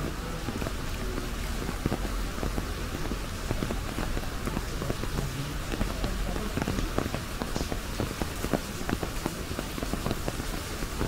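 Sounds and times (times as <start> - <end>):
rain hiss: 0.0 - 11.0
rain pattering on umbrella: 0.0 - 11.0.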